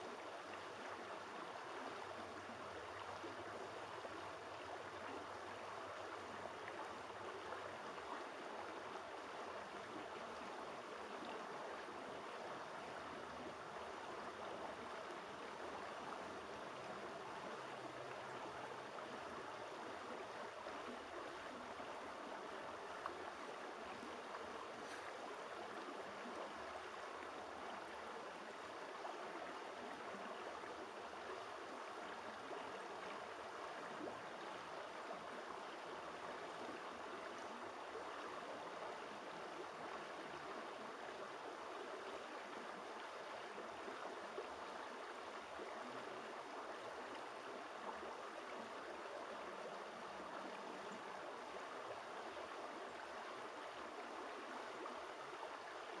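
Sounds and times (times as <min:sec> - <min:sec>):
creek running over stones: 0:00.0 - 0:56.0.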